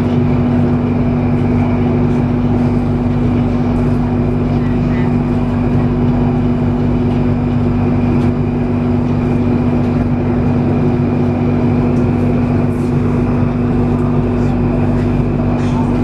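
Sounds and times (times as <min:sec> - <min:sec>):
train carriage rumble: 0:00.0 - 0:16.0.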